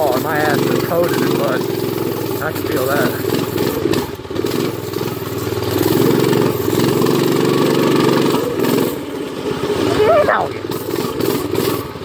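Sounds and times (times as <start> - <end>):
minibike engine running: 0.0 - 12.0.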